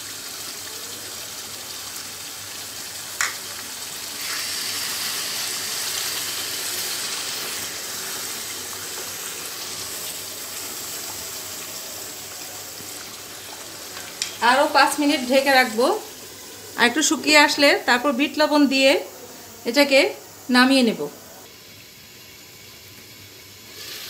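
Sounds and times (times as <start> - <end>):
pickle sizzling in a pan: 0.0 - 24.0.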